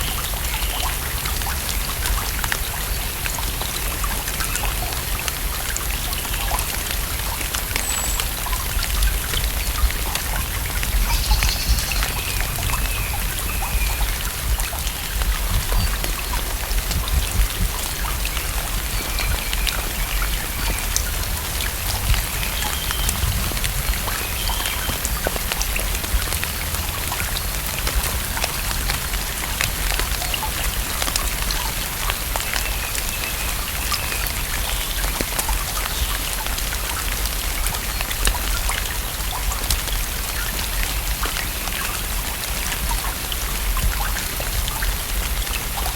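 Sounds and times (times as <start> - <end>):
rain falling on water: 0.0 - 45.9.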